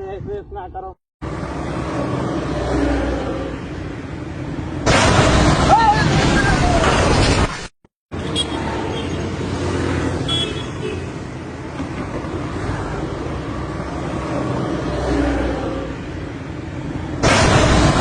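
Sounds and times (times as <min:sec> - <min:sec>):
vehicle rumble: 0:00.1 - 0:07.5, 0:08.1 - 0:18.0.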